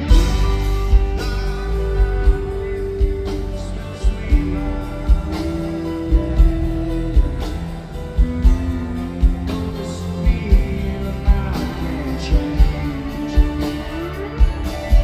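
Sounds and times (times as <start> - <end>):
rock band playing: 0.0 - 15.0
steady bass drum beat: 0.0 - 15.0.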